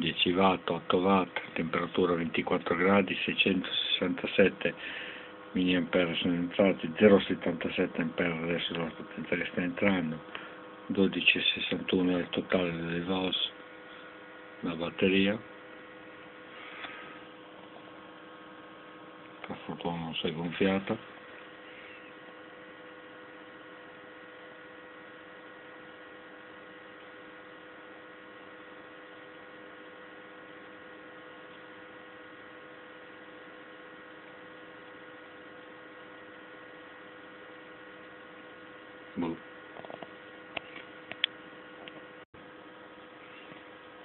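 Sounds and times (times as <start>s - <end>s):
steady electrical hum: 0.0s - 44.0s.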